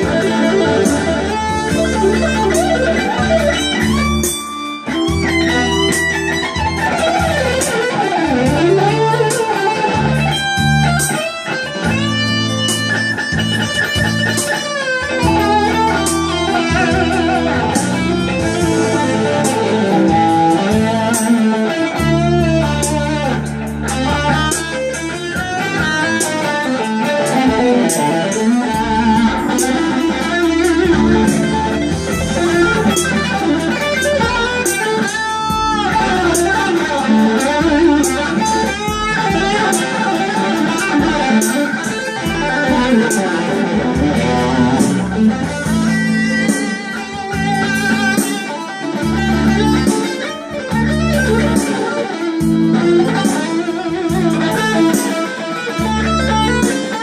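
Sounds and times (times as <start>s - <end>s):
electric guitar lead with bends: 0.0s - 57.0s
keyboard bass notes and chords: 0.0s - 57.0s.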